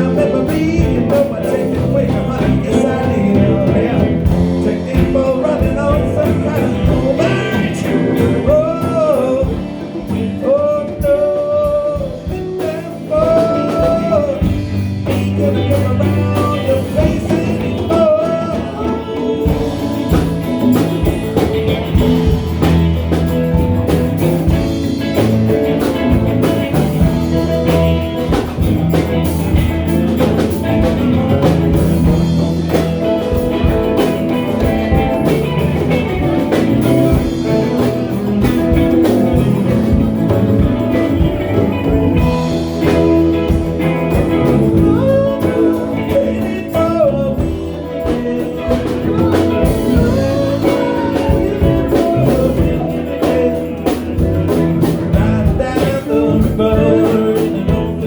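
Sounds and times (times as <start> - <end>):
band playing ragtime blues: 0.0 - 58.0.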